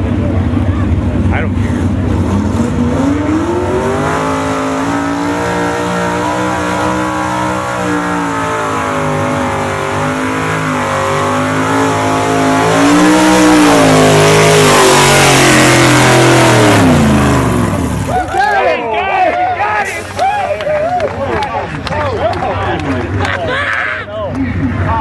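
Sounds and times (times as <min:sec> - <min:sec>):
truck engine at high revs: 0:00.0 - 0:18.8, 0:19.6 - 0:23.6.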